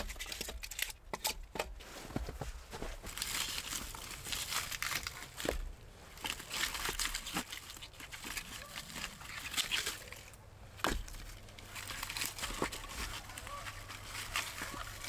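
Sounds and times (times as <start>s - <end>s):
firewood rustling: 0.0s - 15.0s.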